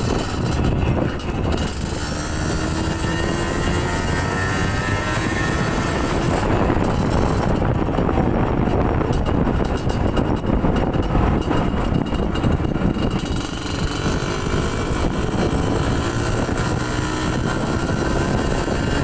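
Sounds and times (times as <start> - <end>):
two-stroke motorcycle engine running: 0.0 - 19.0.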